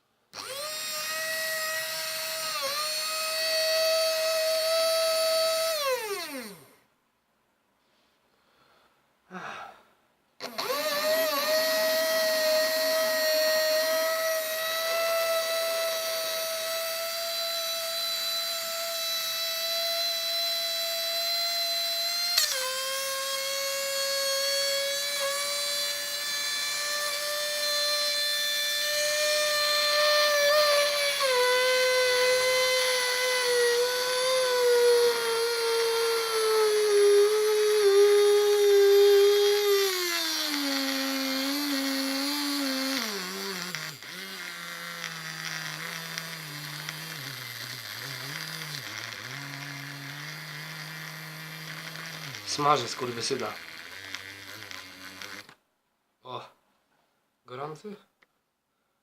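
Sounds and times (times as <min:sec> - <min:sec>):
small motor whining: 0:00.3 - 0:06.9, 0:10.4 - 0:55.6.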